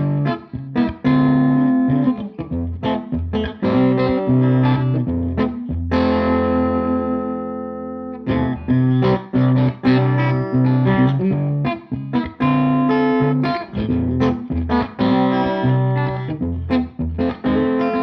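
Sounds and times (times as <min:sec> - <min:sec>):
electric guitar held chord: 0:00.0 - 0:18.0.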